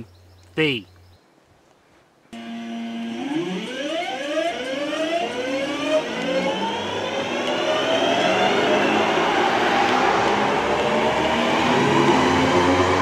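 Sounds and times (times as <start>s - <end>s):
electric train motor whine rising: 2.4s - 13.0s
wheels rushing on rail: 2.4s - 13.0s.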